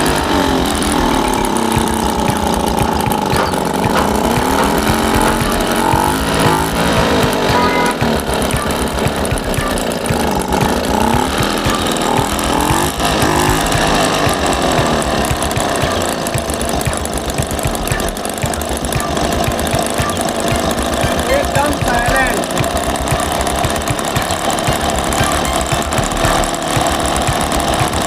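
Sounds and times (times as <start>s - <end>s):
moped engine running: 0.0s - 28.0s.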